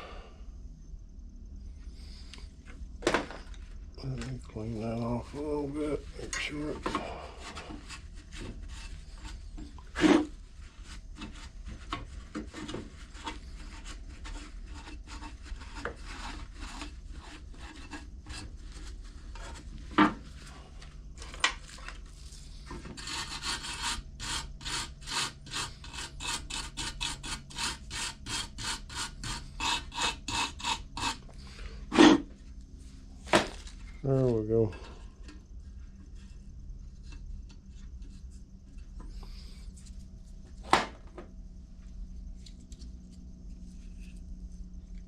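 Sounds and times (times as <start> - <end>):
hand rubbing and scraping: 1.9 - 40.7.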